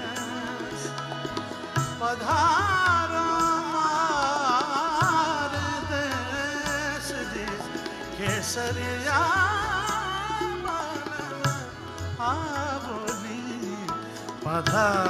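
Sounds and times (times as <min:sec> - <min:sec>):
instrumental accompaniment: 0:00.0 - 0:15.0
man singing wordless vocal line: 0:00.0 - 0:15.0.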